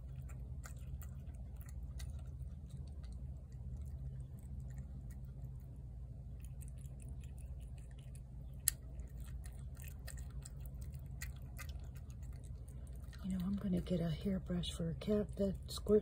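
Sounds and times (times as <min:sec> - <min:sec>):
cat chewing wet food: 0:00.0 - 0:16.0
steady low hum: 0:00.0 - 0:16.0.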